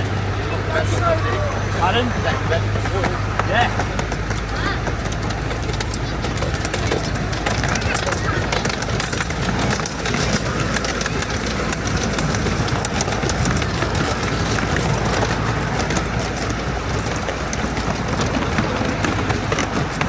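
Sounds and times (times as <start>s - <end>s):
clicks and rattles on track: 0.0s - 20.0s
miniature steam train rumbling: 0.0s - 20.0s.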